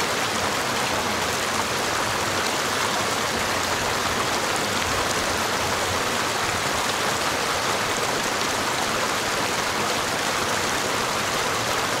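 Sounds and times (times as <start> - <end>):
creek splashing over rocks: 0.0 - 12.0.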